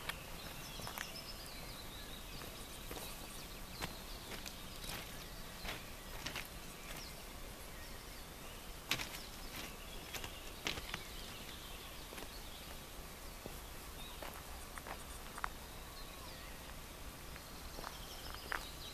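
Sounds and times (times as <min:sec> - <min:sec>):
birds chirping: 0:00.0 - 0:18.9
faint steady hiss: 0:00.0 - 0:18.9.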